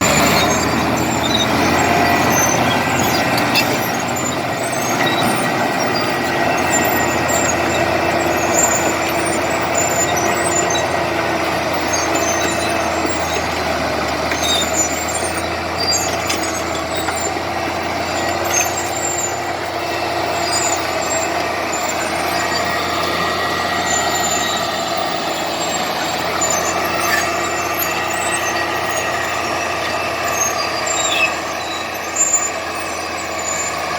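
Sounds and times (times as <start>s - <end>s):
bulldozer diesel engine running: 0.0s - 33.9s
small clicks and squeaks: 0.2s - 33.9s.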